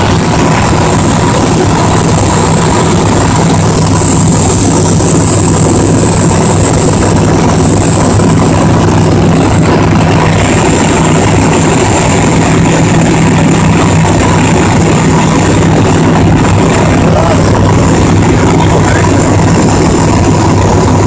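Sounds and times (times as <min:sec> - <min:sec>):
propeller aircraft engine drone: 0:00.0 - 0:21.0
thin high whine: 0:00.0 - 0:21.0.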